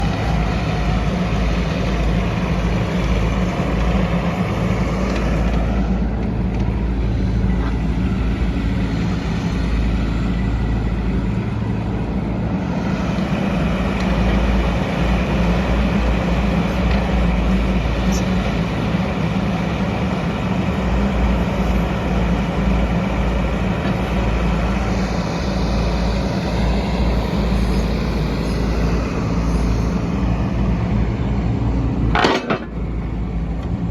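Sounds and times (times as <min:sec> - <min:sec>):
diesel engine humming: 0:00.0 - 0:33.9.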